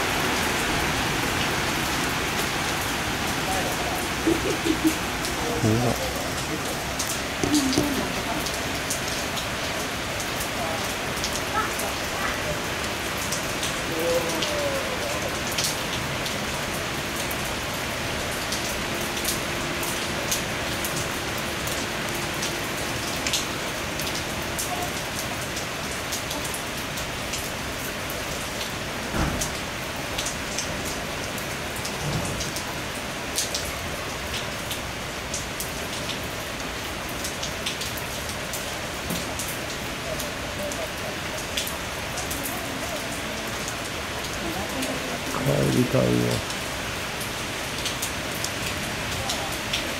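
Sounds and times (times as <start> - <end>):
heavy rain falling: 0.0 - 49.9
raindrops splashing on surfaces: 0.0 - 49.9.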